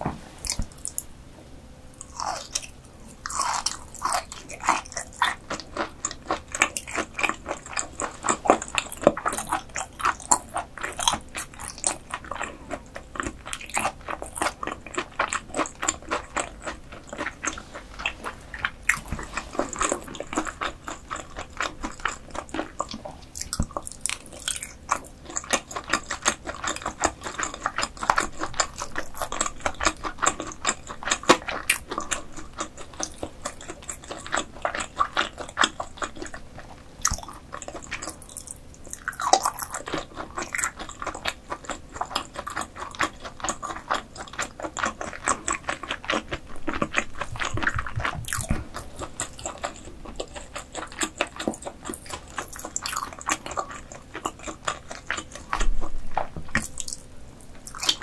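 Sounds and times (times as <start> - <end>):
wet chewing clicks: 0.4 - 1.1, 1.9 - 58.0.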